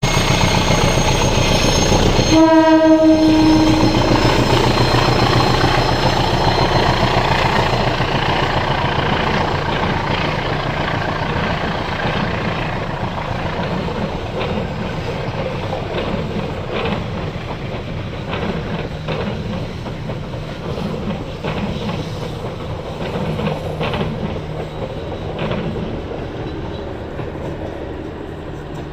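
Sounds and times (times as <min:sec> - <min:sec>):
train rumbling on rails: 0:00.0 - 0:28.9
wheels clacking over rail joints: 0:00.2 - 0:28.9.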